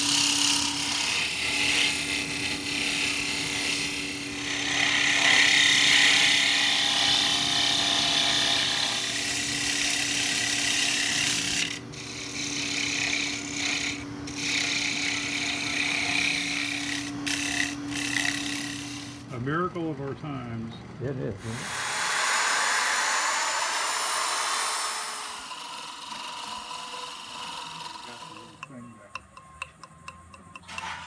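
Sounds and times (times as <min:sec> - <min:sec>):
turning tool cutting wood: 0:00.0 - 0:19.5, 0:21.4 - 0:31.0
wood lathe motor hum: 0:00.0 - 0:20.7, 0:21.5 - 0:31.0.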